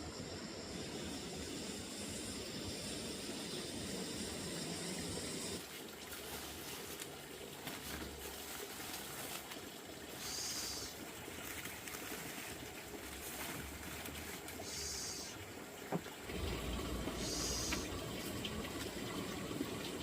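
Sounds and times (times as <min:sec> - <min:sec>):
water trickling: 0:00.2 - 0:20.0.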